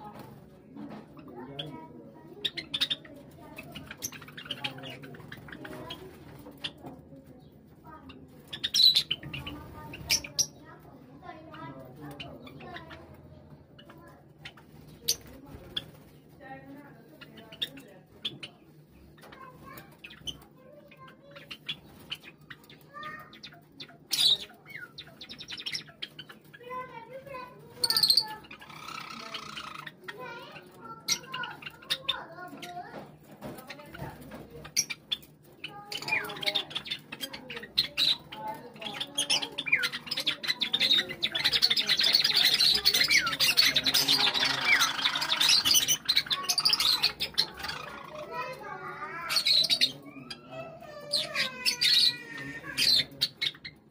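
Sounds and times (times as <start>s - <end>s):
sparrows chipping and clicking: 0.0s - 53.9s
wings fluttering: 2.4s - 53.8s.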